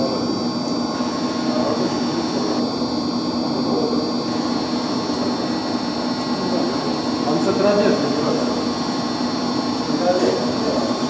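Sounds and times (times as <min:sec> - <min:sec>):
constant high whine: 0:00.0 - 0:11.0
low machine drone: 0:00.0 - 0:11.0.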